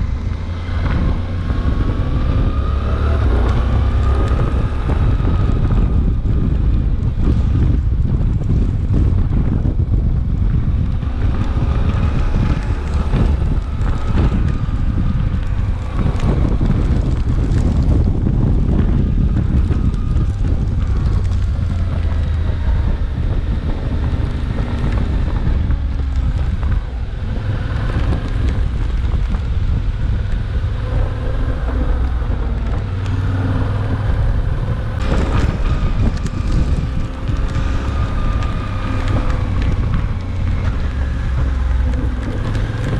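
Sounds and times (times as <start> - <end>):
motorcycle engine running: 0.0 - 42.9
wind rumble on microphone: 0.0 - 42.9.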